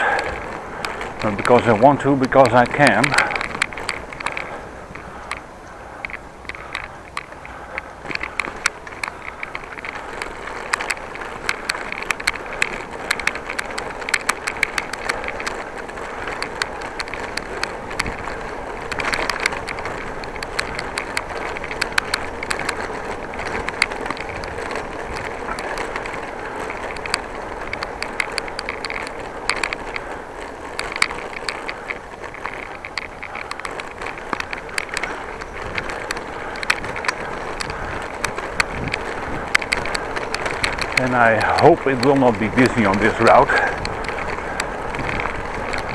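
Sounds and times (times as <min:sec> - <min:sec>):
bicycle tyre and road noise: 0:00.0 - 0:45.9
bike clicks and rattles: 0:00.0 - 0:45.9.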